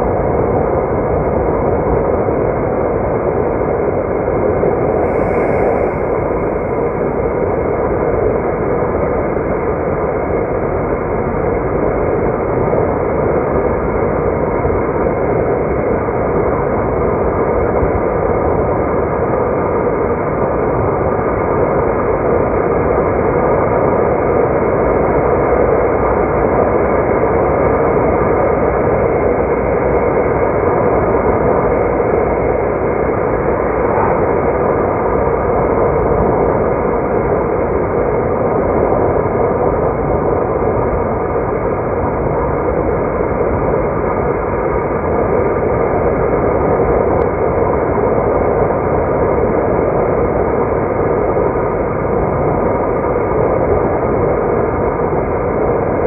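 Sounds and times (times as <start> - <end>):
car road and engine noise: 0.0 - 21.3, 22.0 - 56.0.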